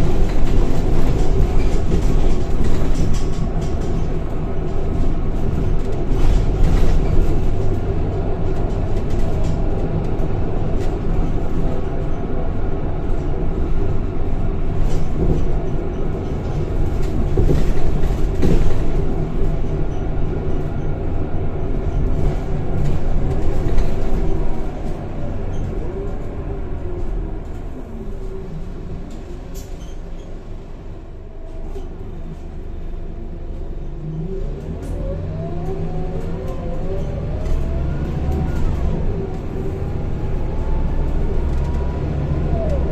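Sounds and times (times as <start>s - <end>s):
bus engine rumbling: 0.0s - 42.9s.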